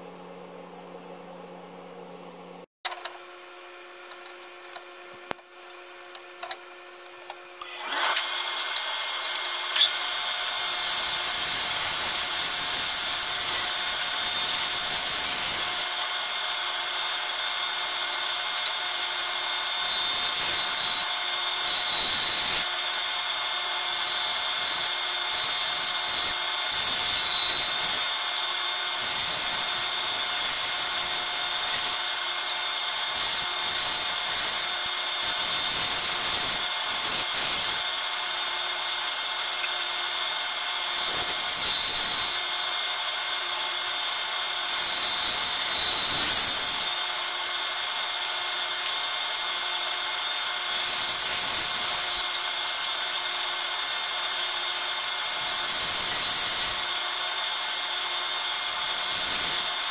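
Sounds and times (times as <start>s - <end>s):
bandsaw cutting wood: 7.6s - 59.9s.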